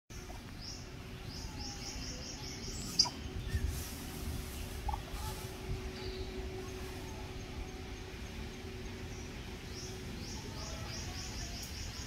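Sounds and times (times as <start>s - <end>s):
low rumble: 0.2s - 12.0s.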